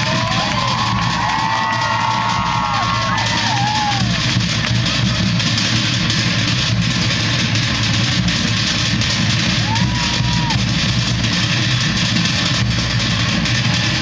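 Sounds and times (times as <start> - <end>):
crowd noise: 0.0 - 14.0
loud live music: 0.0 - 14.0.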